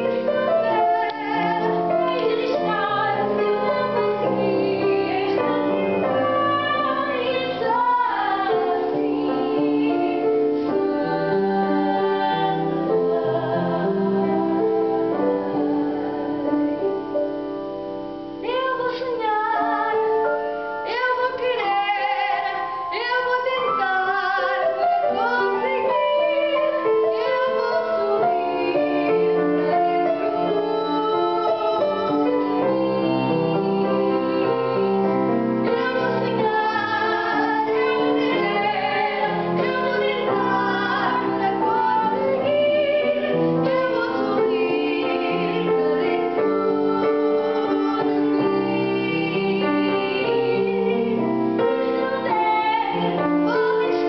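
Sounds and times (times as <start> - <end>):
woman singing with vibrato: 0.0 - 16.8, 18.4 - 54.0
grand piano accompaniment: 0.0 - 54.0.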